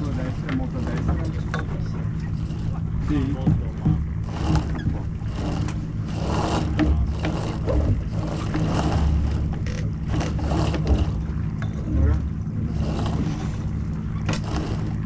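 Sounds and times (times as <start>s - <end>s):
steady low hum: 0.0s - 15.0s
water splashing against hull: 0.0s - 15.0s.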